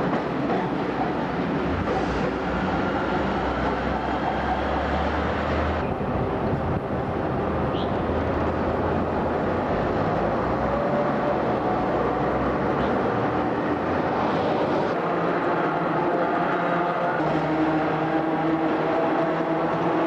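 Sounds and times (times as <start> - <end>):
tram wheels on rails: 0.0 - 20.0.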